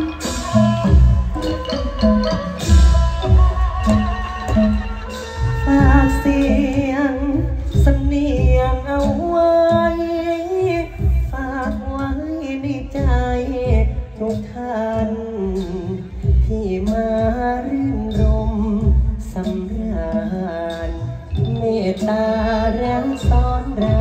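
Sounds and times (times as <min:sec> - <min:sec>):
amplified backing music: 0:00.0 - 0:24.0
person singing ornamented melody: 0:00.0 - 0:24.0
regular drum beat: 0:00.0 - 0:24.0.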